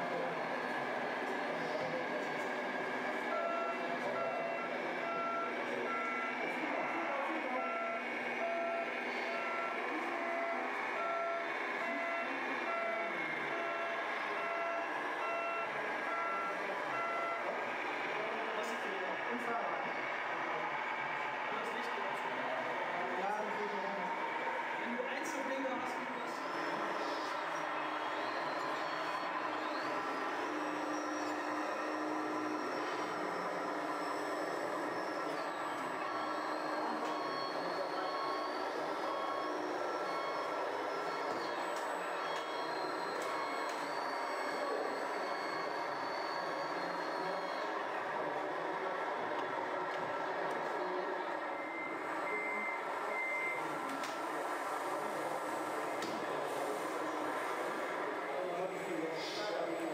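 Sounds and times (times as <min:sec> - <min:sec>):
reversing beepers: 0:00.0 - 0:59.9
steady background noise: 0:00.0 - 0:59.9.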